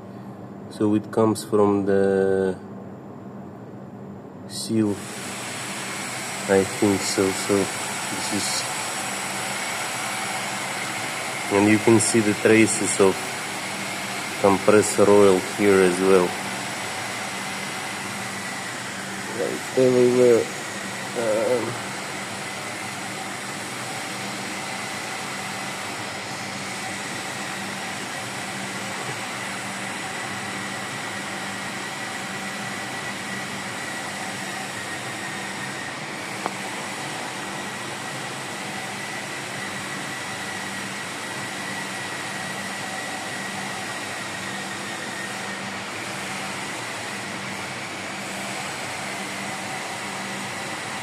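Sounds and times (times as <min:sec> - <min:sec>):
faint high whine: 0:00.0 - 0:51.0.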